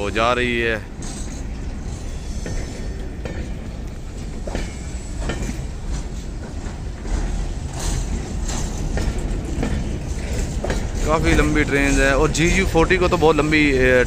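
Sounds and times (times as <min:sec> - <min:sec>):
freight train wheels rumbling: 0:00.0 - 0:14.0
wheels clacking on track: 0:00.0 - 0:14.0.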